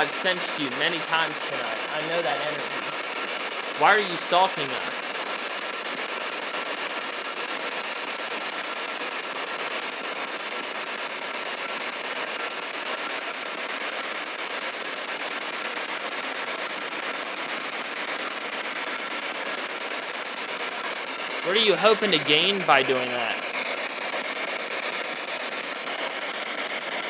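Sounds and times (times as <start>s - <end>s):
radio static rushing: 0.0s - 27.0s.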